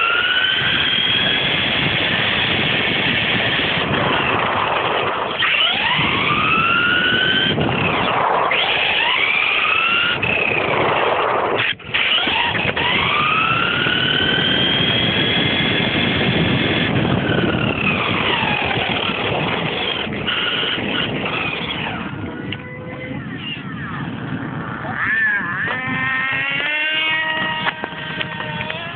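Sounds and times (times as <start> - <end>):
toy car electric motor whining: 0.0 - 28.9.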